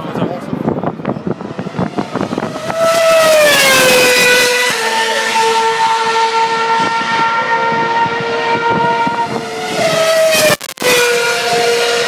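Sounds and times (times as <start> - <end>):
racing car engines high revs: 0.6 - 12.0.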